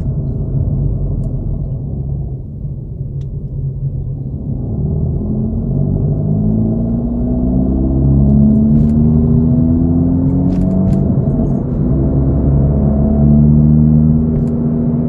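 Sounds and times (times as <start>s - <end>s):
car engine and exhaust droning: 0.0s - 15.0s.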